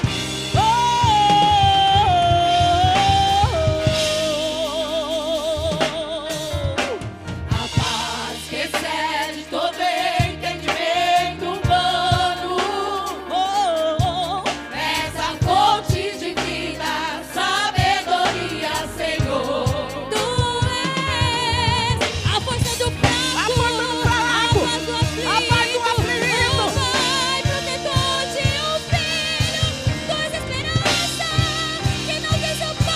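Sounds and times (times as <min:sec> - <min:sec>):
band with drums: 0:00.0 - 0:32.9
gospel singing voices: 0:00.0 - 0:32.9.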